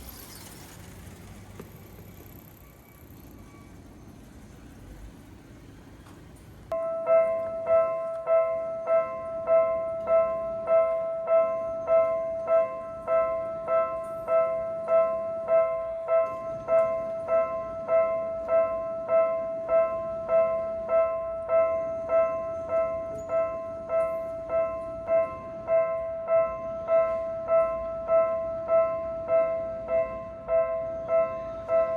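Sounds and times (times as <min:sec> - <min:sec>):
railroad crossing warning bell: 0:00.0 - 0:05.1, 0:06.7 - 0:31.9.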